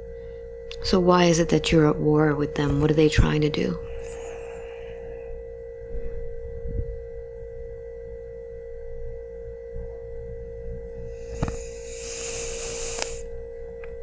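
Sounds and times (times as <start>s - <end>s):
pure tone hum: 0.0s - 14.0s.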